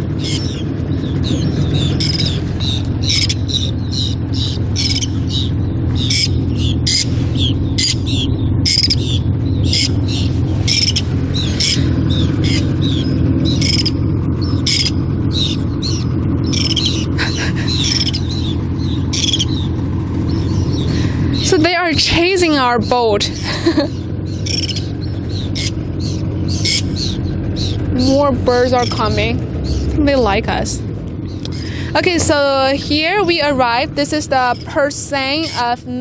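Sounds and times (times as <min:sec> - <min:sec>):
gulls calling: 0:00.0 - 0:36.0
outboard motor running: 0:00.0 - 0:36.0.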